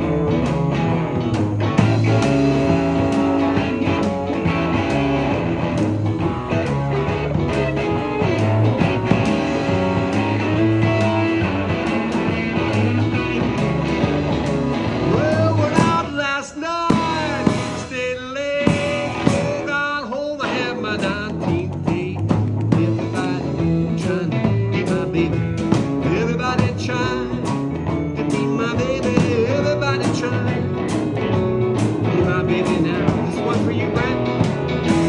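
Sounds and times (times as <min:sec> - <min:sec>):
gliding lead guitar notes: 0:00.0 - 0:16.1, 0:20.4 - 0:35.0
blues-rock band playing: 0:00.0 - 0:35.0.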